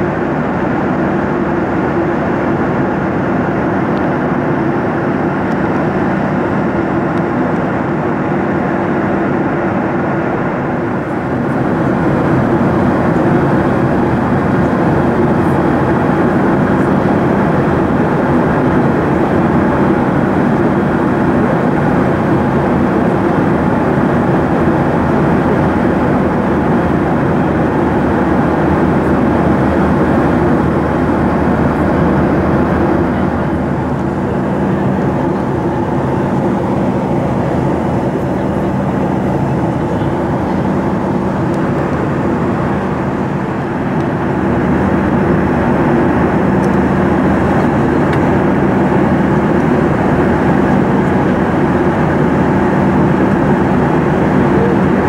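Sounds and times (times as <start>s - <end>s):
jet engine and airflow noise: 0.0s - 55.0s.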